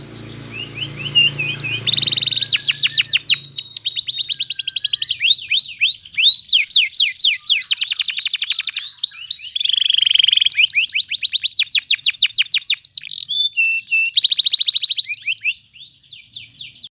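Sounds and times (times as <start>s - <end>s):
canary singing trills: 0.0s - 16.9s.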